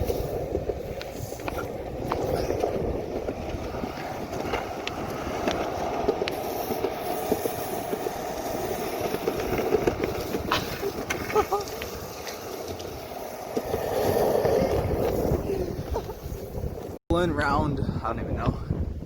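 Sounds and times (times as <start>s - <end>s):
longboard wheels rolling on asphalt: 0.0s - 17.4s.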